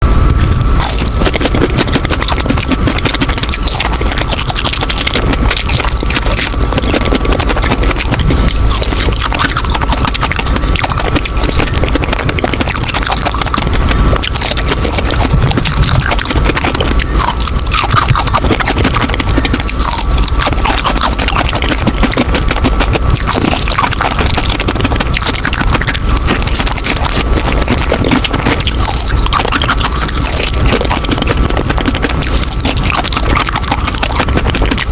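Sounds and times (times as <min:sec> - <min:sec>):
crunching and chewing hard candy: 0:00.0 - 0:34.9.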